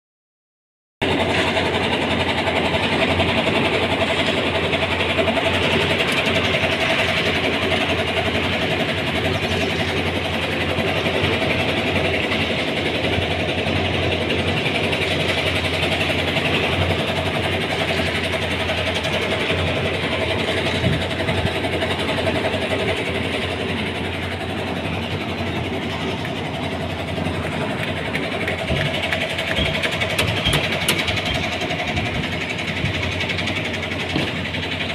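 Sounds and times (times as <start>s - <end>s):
concrete mixer engine running: 1.0s - 34.9s.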